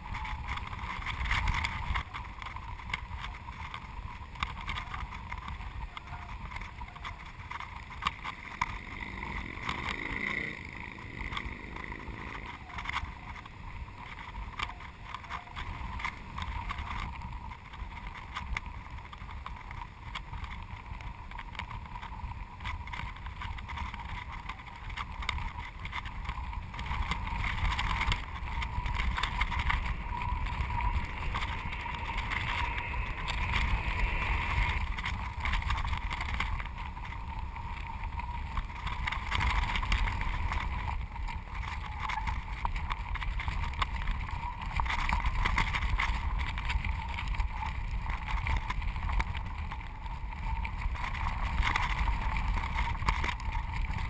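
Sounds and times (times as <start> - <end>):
small clicks: 0.0 - 54.0
wind buffeting camera: 0.0 - 54.0.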